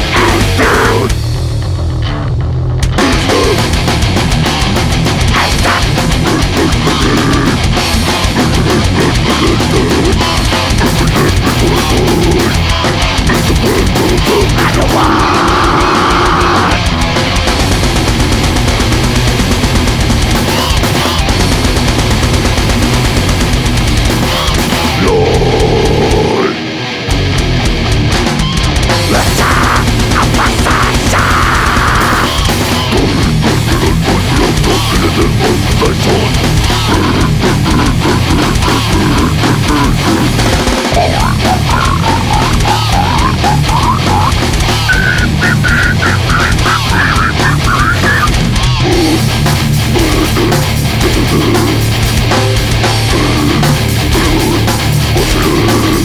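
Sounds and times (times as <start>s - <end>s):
fast dense drumming: 0.0s - 1.8s, 2.8s - 26.4s, 27.1s - 56.0s
distorted guitars: 0.0s - 56.0s.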